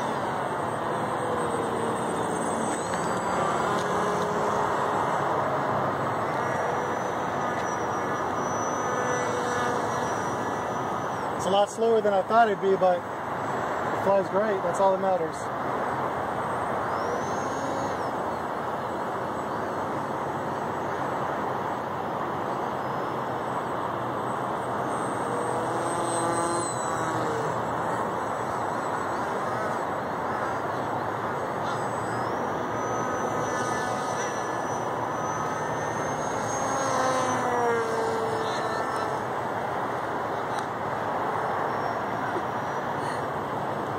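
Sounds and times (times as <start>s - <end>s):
electric motor propeller whine: 0.0s - 11.5s, 15.9s - 43.9s.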